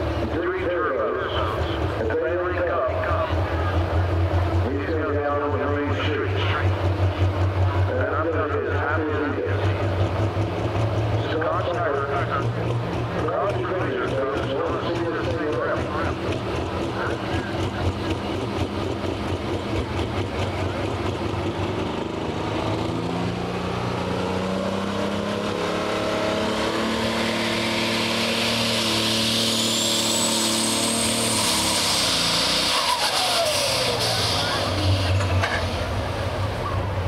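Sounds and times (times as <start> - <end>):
high turbo whine: 0.0 - 37.0
tractor engine revving: 0.0 - 37.0.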